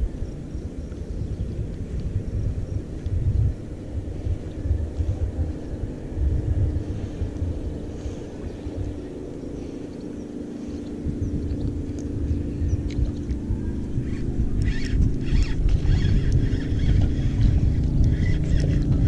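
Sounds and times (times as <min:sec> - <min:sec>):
distant engine droning: 0:00.0 - 0:19.0
gusty low rumble: 0:00.0 - 0:19.0.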